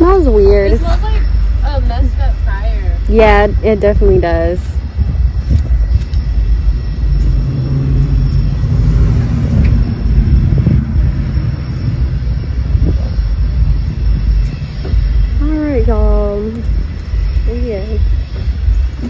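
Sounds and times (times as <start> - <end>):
uneven low rumble: 0.0 - 19.0.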